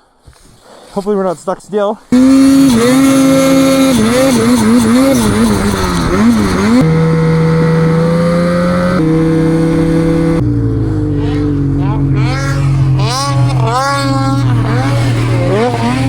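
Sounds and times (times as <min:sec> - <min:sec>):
snowmobile engine revving: 0:02.1 - 0:16.0.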